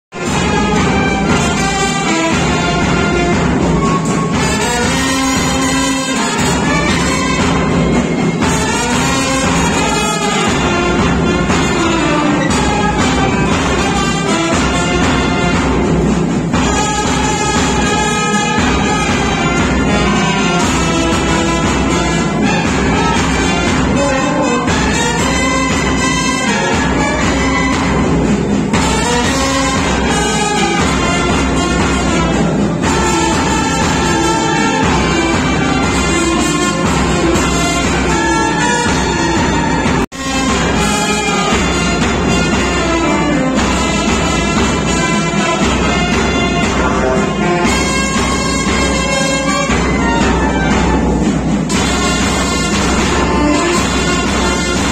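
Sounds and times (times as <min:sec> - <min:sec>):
brass band playing: 0:00.0 - 0:54.9.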